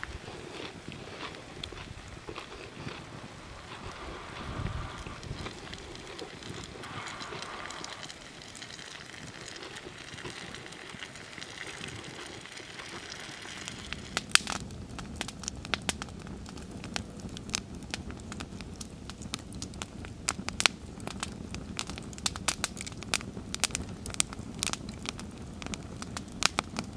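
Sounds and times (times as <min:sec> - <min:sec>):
low rush of flame: 0:00.0 - 0:26.9
wood fire crackling and popping: 0:00.0 - 0:26.9.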